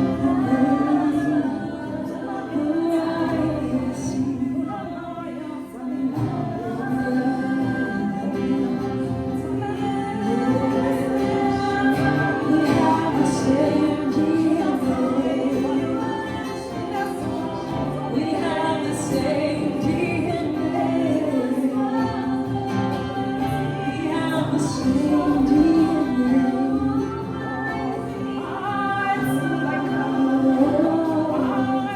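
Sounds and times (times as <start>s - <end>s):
voices singing along: 0.0s - 31.9s
woman singing: 0.0s - 31.9s.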